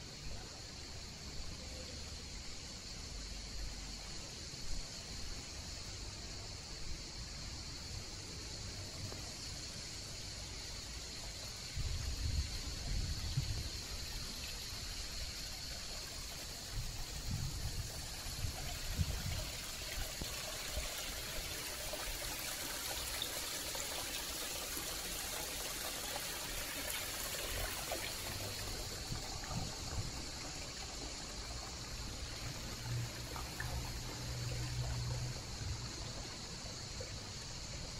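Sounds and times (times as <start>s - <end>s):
fountain water trickling: 0.0s - 37.9s.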